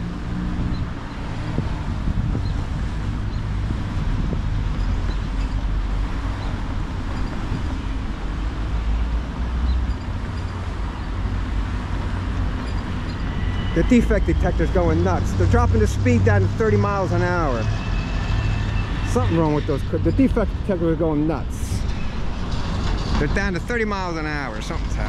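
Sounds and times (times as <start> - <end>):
vehicles crossing railroad crossing: 0.0 - 25.0.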